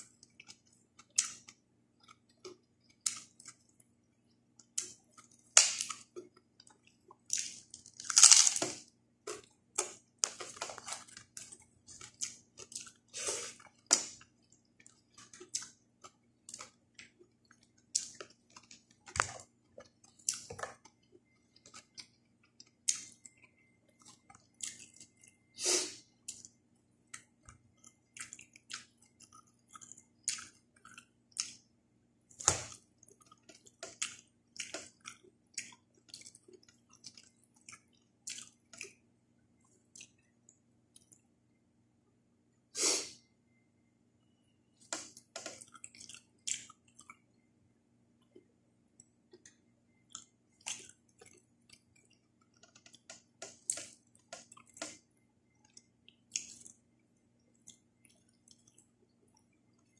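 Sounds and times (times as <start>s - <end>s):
person chewing food: 0.0s - 31.7s, 32.3s - 39.0s, 39.6s - 41.3s, 44.8s - 47.5s, 48.2s - 59.9s
faint steady hum: 0.0s - 59.9s.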